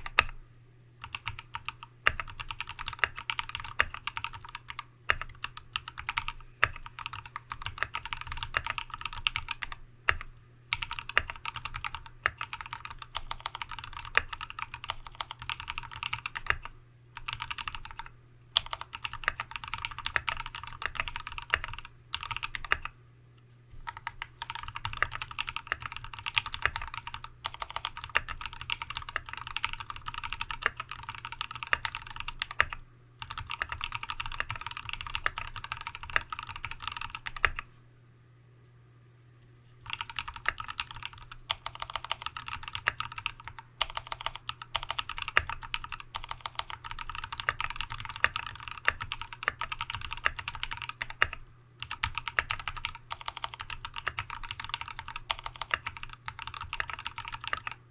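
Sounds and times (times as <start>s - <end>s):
fast typing on mechanical keyboard: 0.0s - 0.4s, 1.0s - 22.9s, 23.8s - 37.6s, 39.8s - 57.8s.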